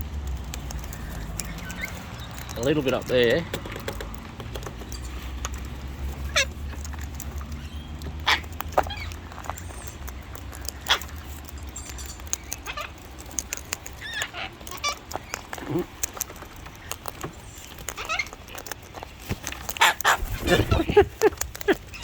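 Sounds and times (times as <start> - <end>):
parrots squawking: 0.5 - 3.3, 6.1 - 22.0.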